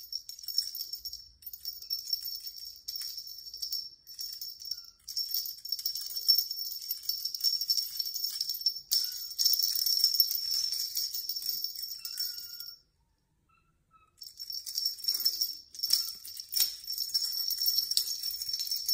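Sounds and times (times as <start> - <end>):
small bell jingling: 0.0 - 12.9, 14.2 - 18.9.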